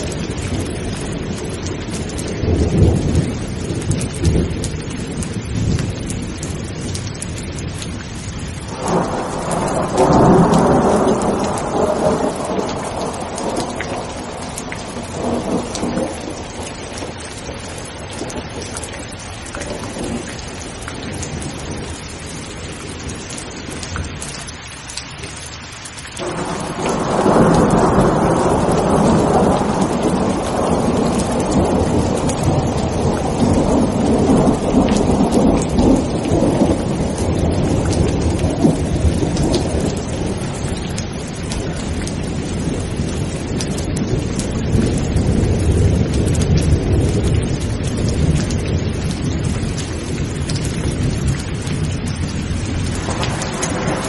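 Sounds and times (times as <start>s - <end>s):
rolling thunder: 0.0s - 24.2s, 26.2s - 54.0s
heavy rain: 0.0s - 54.0s.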